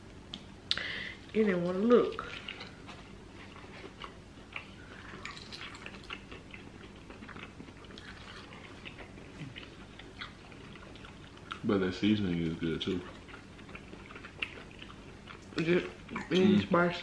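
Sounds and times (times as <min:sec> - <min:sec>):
chewing meat: 0:02.0 - 0:16.7.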